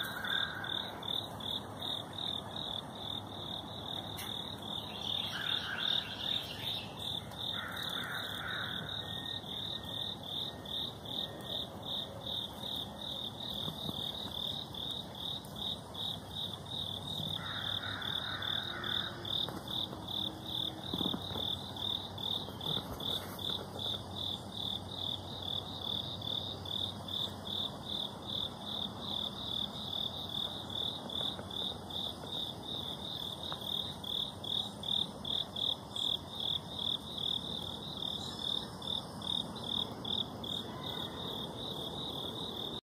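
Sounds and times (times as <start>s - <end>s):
insect chirping: 0.0s - 42.8s.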